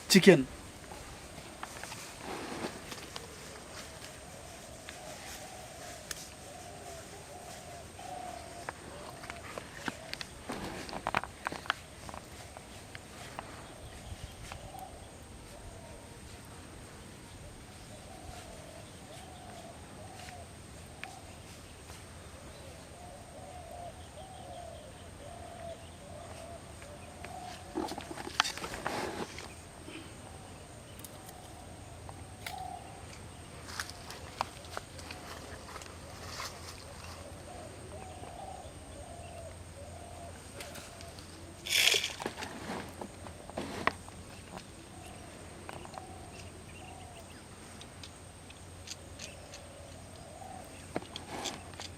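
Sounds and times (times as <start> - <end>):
bird calling: 0.0 - 16.4, 17.2 - 51.9
faint steady hiss: 0.0 - 51.9.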